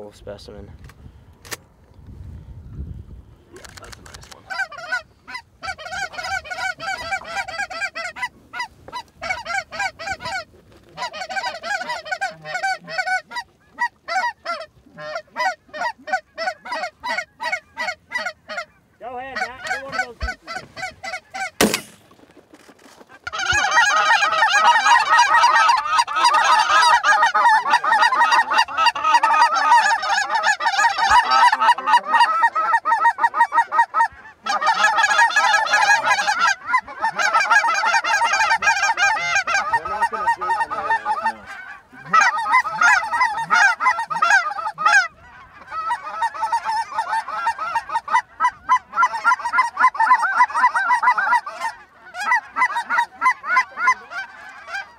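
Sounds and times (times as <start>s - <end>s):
geese honking: 4.3s - 54.9s.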